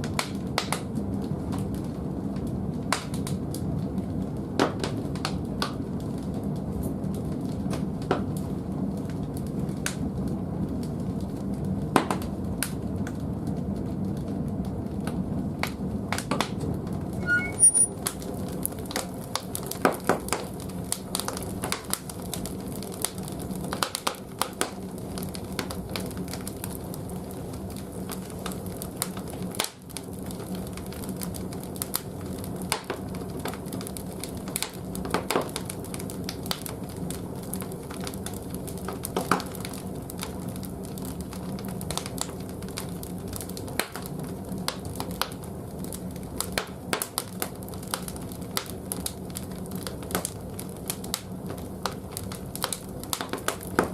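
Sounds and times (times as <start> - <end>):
firewood crackling and popping: 0.0 - 17.4, 18.1 - 53.9.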